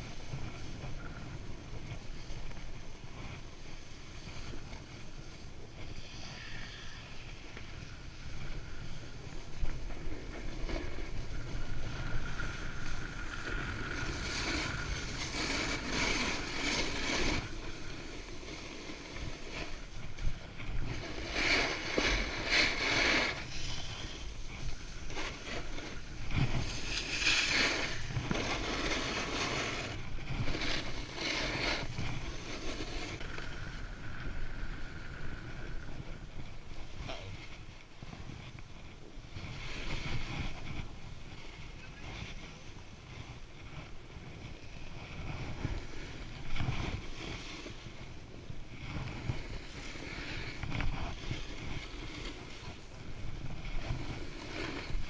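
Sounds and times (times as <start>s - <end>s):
skis scraping over snow: 0.0s - 55.0s
wind rumbling on microphone: 0.0s - 55.0s.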